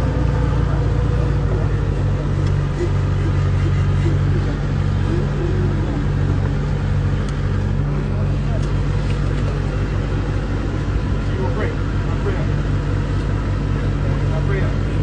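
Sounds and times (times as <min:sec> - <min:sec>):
people murmuring: 0:00.0 - 0:15.0
steady low drone: 0:00.0 - 0:15.0.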